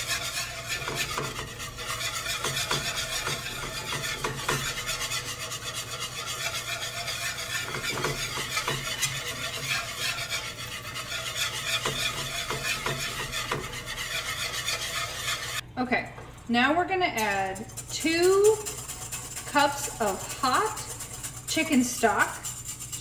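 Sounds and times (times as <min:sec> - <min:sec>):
fat sizzling: 0:00.0 - 0:23.0
whisk scraping a skillet: 0:00.0 - 0:23.0.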